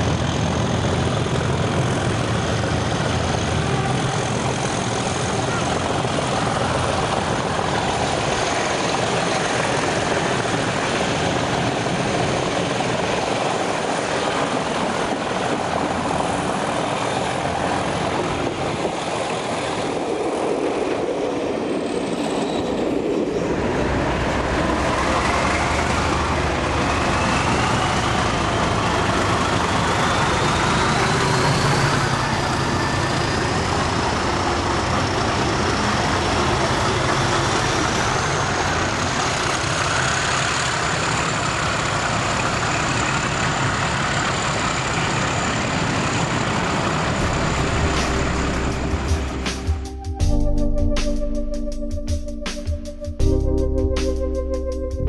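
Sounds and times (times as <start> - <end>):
diesel locomotive working hard: 0.0 - 50.7
locomotive passing with rising whine: 0.0 - 55.0.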